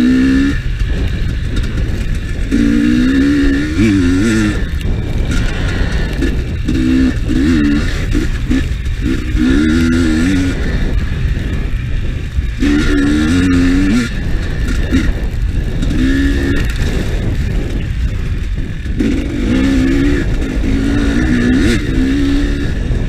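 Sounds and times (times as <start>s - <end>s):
dirt bike engine revving: 0.0s - 23.0s
steady low rumble: 0.0s - 23.0s.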